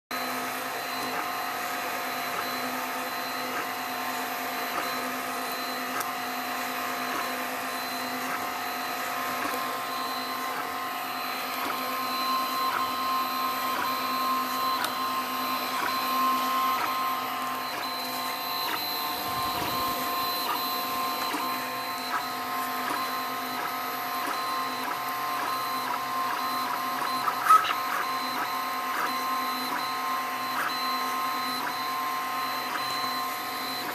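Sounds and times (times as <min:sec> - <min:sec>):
stepper motors whining: 0:00.2 - 0:33.9.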